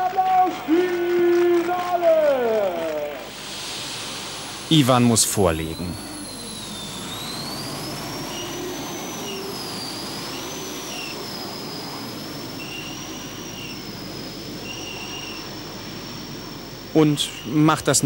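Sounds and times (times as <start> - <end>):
turbine engine roaring with whine: 2.4 - 18.0.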